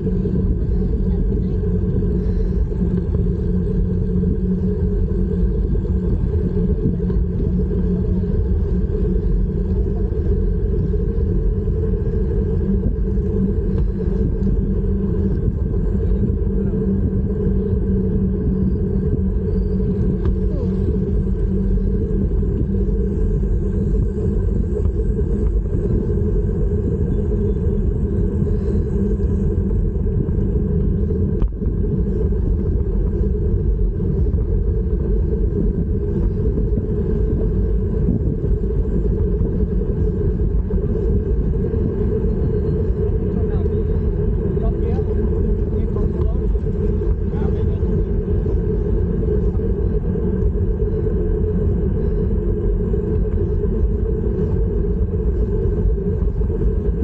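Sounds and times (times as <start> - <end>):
bike rolling noise: 0.0 - 57.0
wind buffeting microphone: 0.0 - 57.0.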